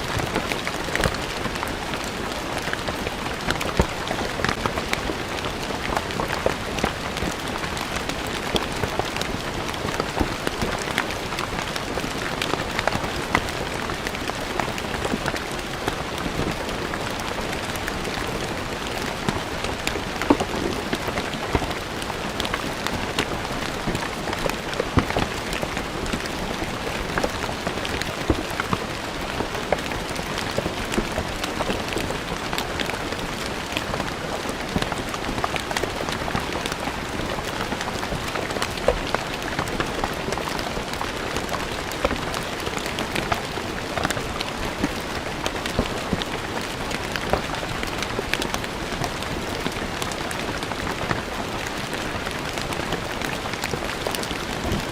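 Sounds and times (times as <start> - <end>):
rain falling on stone paving: 0.0 - 54.9.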